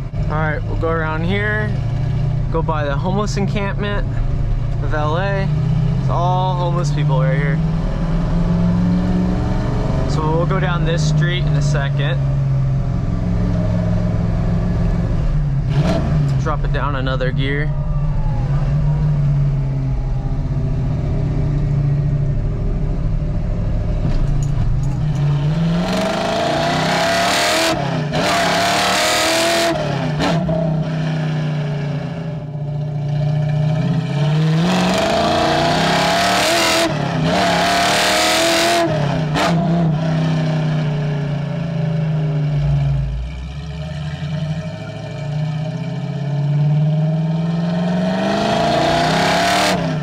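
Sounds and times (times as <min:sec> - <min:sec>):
car exhaust revving through gears: 0:00.0 - 0:50.0.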